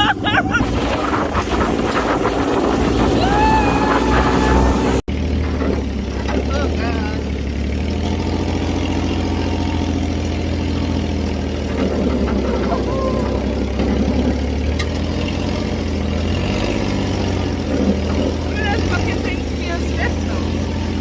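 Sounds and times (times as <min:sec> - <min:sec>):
dune buggy engine humming: 0:00.0 - 0:21.0.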